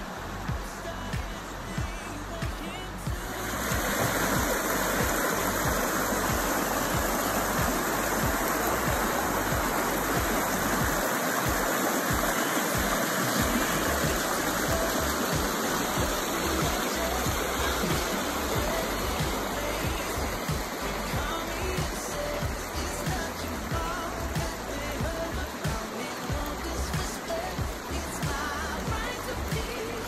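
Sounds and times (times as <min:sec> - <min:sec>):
creek rushing over rocks: 0:00.0 - 0:30.0.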